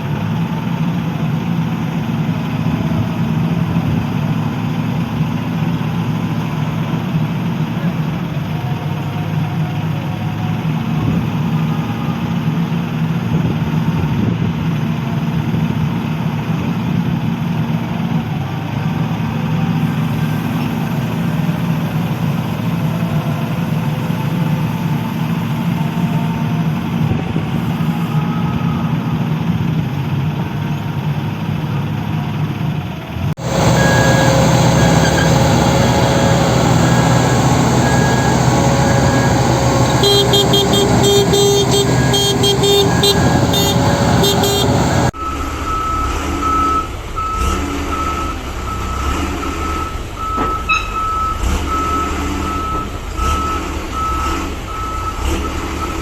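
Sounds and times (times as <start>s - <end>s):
diesel engine running: 0.0s - 56.0s
machine engine with high tone: 5.8s - 56.0s.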